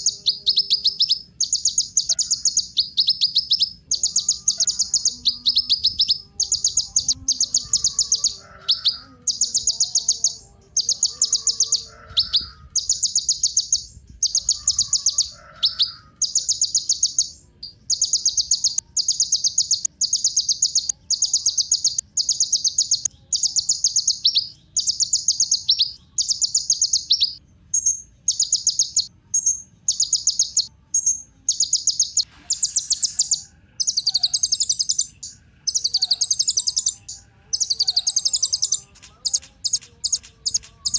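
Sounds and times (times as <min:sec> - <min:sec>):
bird singing rattling trills: 0:00.0 - 0:40.9.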